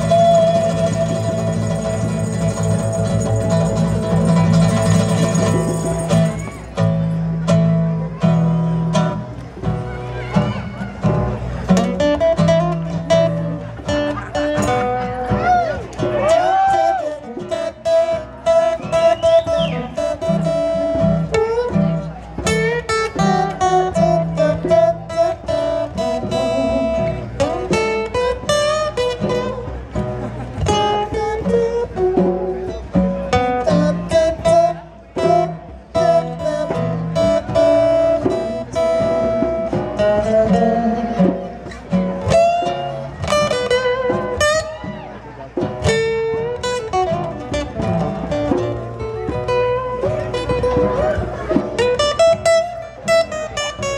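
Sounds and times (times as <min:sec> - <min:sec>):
strummed acoustic guitars: 0:00.0 - 0:53.9.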